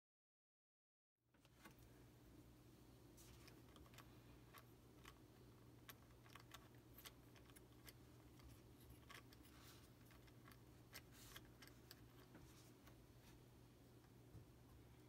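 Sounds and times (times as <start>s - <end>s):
low steady hum: 1.3s - 15.0s.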